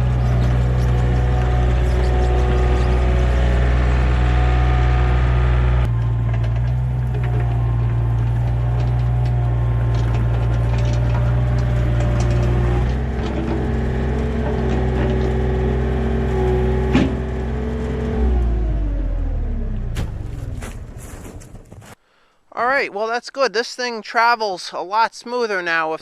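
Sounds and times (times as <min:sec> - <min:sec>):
excavator diesel engine running: 0:00.0 - 0:22.0
excavator tracks moving: 0:00.0 - 0:22.0.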